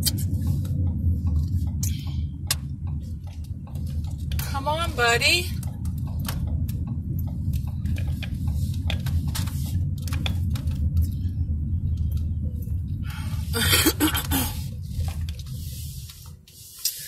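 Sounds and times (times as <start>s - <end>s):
car cabin rumble: 0.0s - 16.7s.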